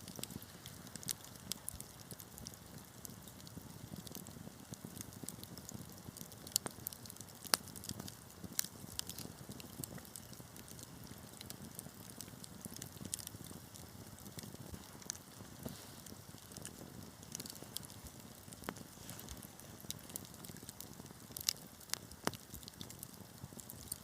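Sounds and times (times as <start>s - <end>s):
fire rumbling: 0.0s - 24.0s
wood fire crackling and popping: 0.0s - 24.0s.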